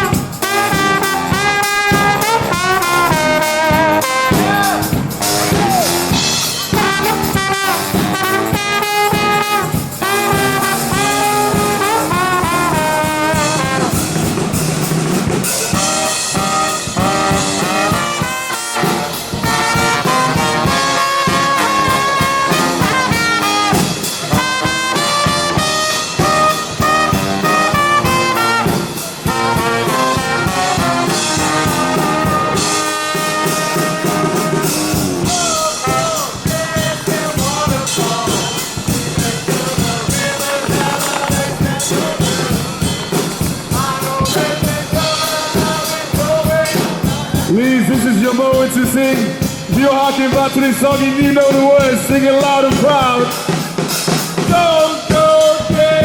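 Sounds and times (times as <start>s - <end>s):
brass band horns playing: 0.0s - 56.0s
steady drum beat: 0.0s - 56.0s.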